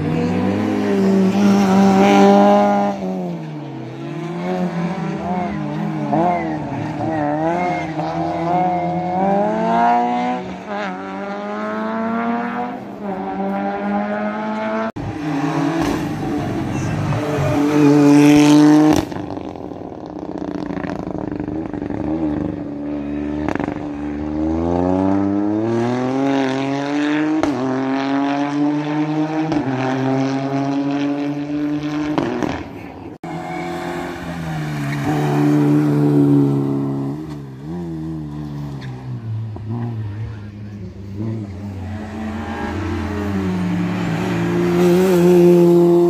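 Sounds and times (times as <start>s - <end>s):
racing car engine accelerating: 0.0s - 46.0s.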